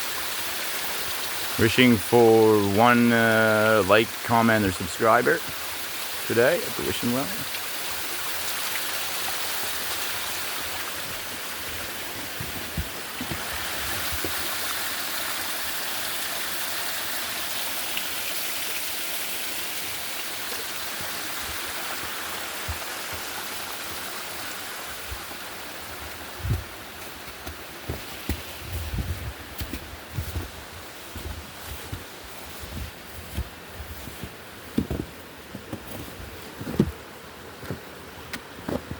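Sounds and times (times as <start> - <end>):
water pouring and splashing: 0.0 - 36.9.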